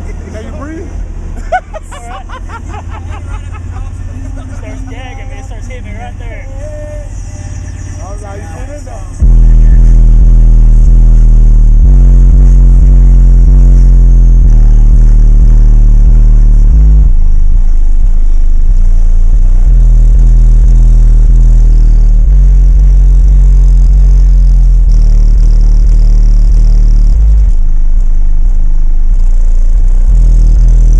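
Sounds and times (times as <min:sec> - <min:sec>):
loud deep bass music: 0:00.0 - 0:30.9.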